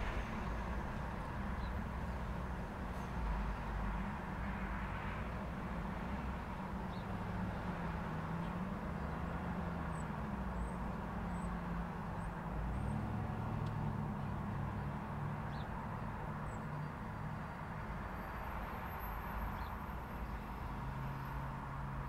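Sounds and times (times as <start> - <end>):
car and truck engines: 0.0 - 22.0.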